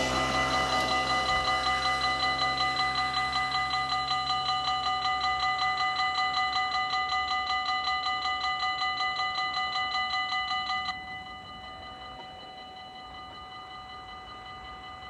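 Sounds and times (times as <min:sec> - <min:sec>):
crossing warning bell ringing: 0:00.0 - 0:15.0.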